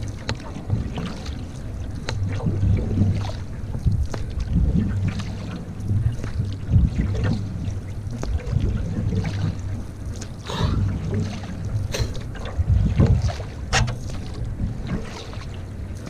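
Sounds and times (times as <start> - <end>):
paddle strokes in water: 0.0 - 16.0
steady low rumble: 0.0 - 16.0.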